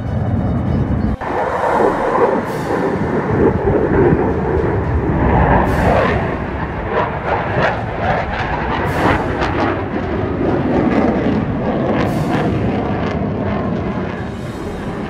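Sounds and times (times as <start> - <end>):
jet engine roar with crackles: 0.0 - 15.0.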